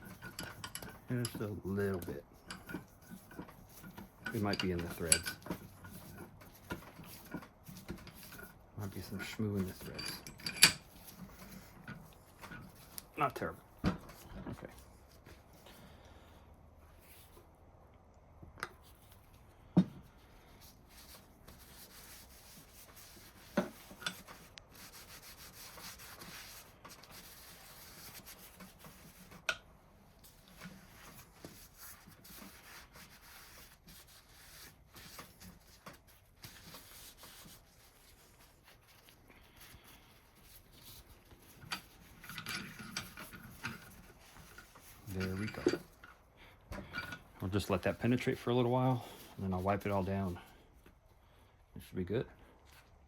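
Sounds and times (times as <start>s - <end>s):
rubbing and handling of vise: 0.0s - 17.6s, 18.4s - 53.0s.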